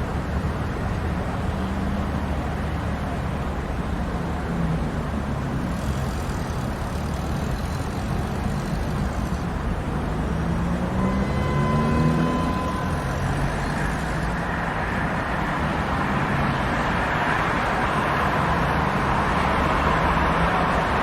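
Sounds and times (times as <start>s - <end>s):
passing cars with engine hum: 0.0s - 21.0s.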